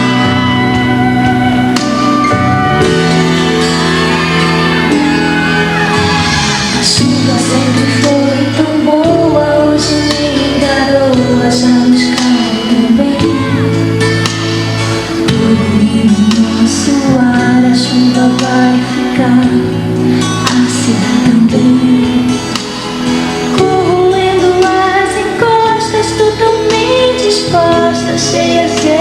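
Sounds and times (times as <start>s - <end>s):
live pop band playing: 0.0s - 29.0s.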